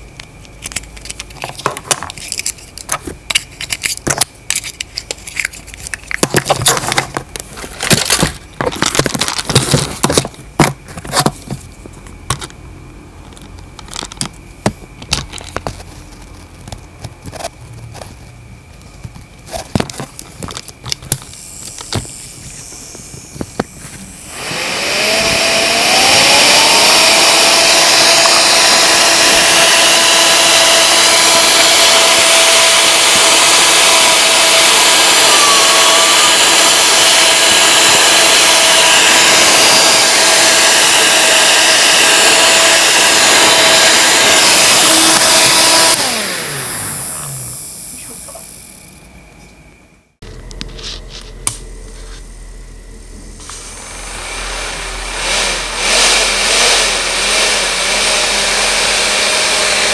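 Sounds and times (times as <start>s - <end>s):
small fan whirring: 0.0s - 59.9s.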